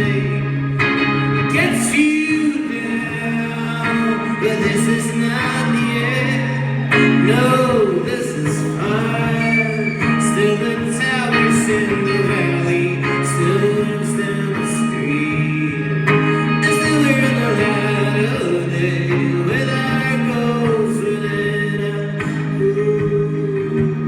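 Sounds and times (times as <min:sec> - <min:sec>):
man singing folk song: 0:00.0 - 0:24.0
sustained acoustic chords: 0:00.0 - 0:24.0.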